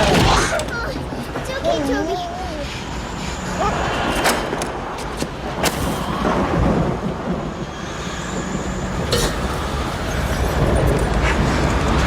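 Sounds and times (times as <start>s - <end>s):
tornado wind roaring: 0.0s - 12.0s.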